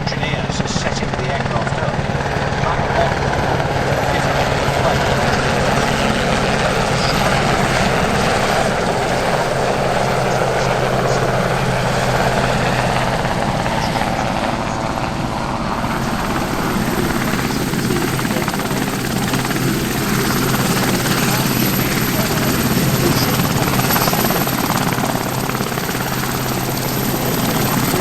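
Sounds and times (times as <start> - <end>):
helicopter rotor and turbine engines: 0.0 - 28.0.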